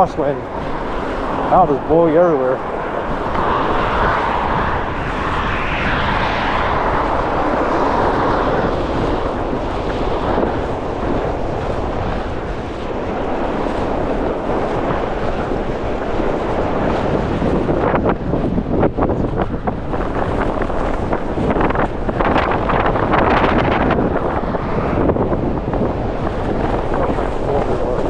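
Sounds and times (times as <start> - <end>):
strong gusting wind on microphone: 0.0 - 28.0.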